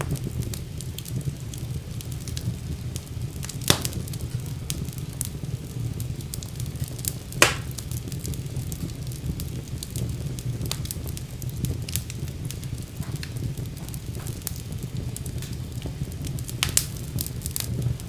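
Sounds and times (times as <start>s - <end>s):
fire crackling: 0.0s - 18.0s
fire popping: 0.0s - 18.0s.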